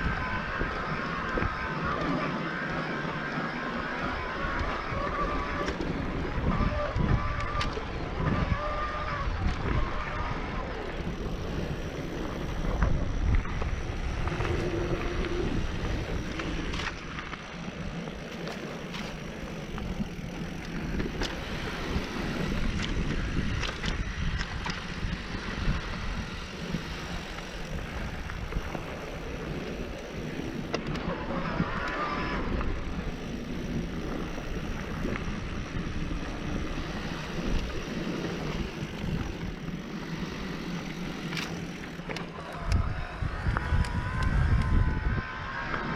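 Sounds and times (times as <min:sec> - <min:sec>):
wind rushing over microphone: 0:00.0 - 0:18.3, 0:19.0 - 0:45.9
bike rattling: 0:00.0 - 0:45.9
bike tyres rolling on dirt: 0:00.0 - 0:45.9.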